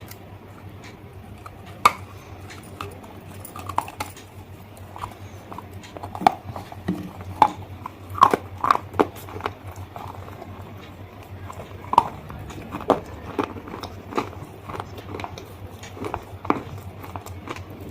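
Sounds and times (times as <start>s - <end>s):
crunching and chewing: 0.0s - 17.9s
steady low hum: 0.0s - 17.9s.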